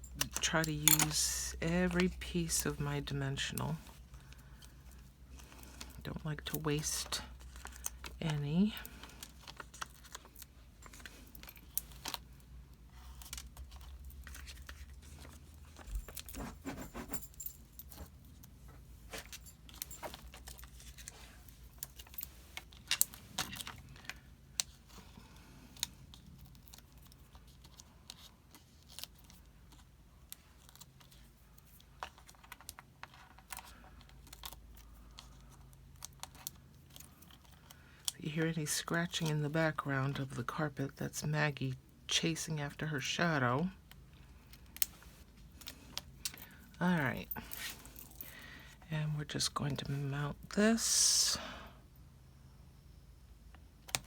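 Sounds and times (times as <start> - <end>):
handling of craft supplies: 0.0 - 40.3, 43.7 - 50.8.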